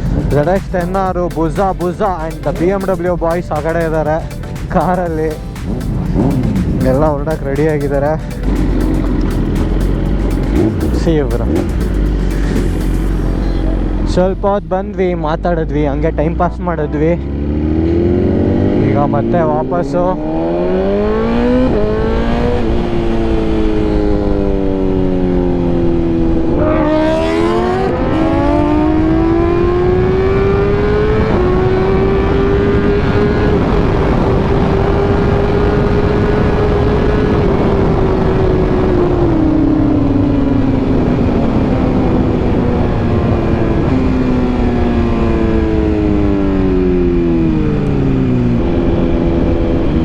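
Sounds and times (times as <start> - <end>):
rushing wind: 0.0 - 14.8, 20.1 - 50.0
motorcycle engine revving: 0.0 - 15.4, 17.2 - 50.0.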